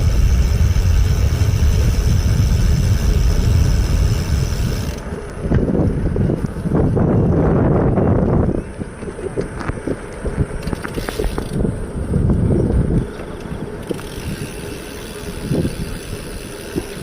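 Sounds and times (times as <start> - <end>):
bicycle rumbling and rattling: 0.0 - 17.0
wind buffeting microphone: 0.0 - 17.0.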